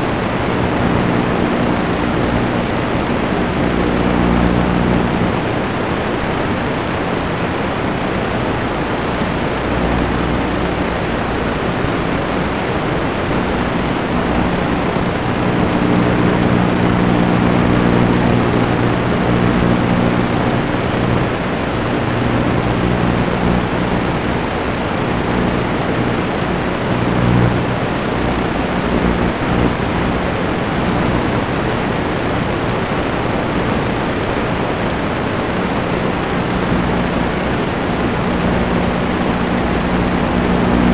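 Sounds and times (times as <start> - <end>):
loud steady hiss: 0.0 - 40.9
low buzzing hum: 0.0 - 40.9.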